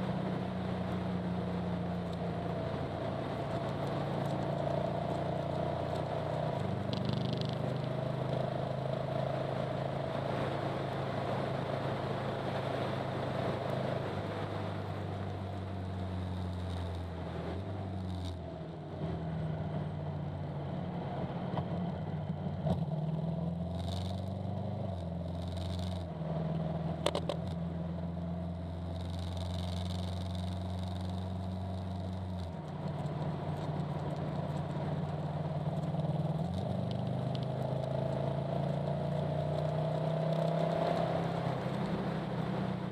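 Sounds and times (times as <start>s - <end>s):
motorcycle engine running: 0.0s - 20.5s, 21.7s - 42.9s
road noise: 0.0s - 42.9s.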